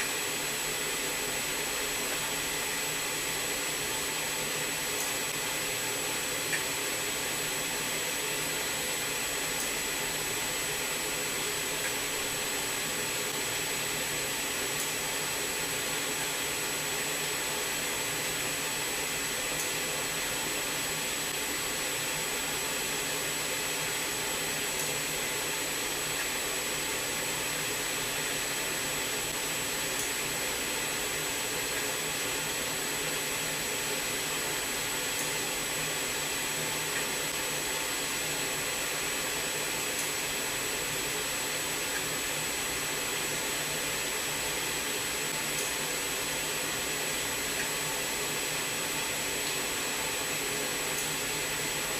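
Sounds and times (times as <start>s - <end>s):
machinery hum and whine: 0.0s - 51.9s.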